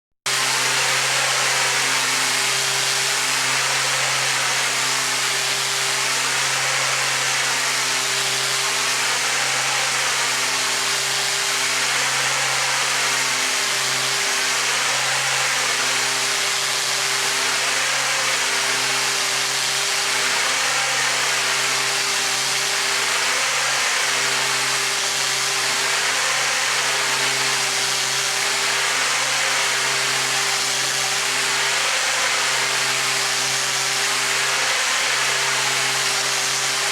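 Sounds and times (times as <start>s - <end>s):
high-pressure water jet hiss: 0.3s - 36.9s.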